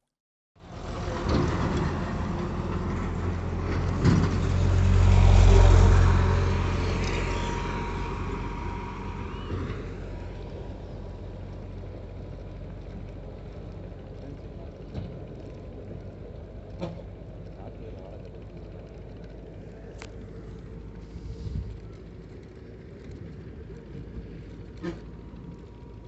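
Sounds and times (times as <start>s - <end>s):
heavy vehicle passing: 0.6s - 15.6s, 16.4s - 26.0s.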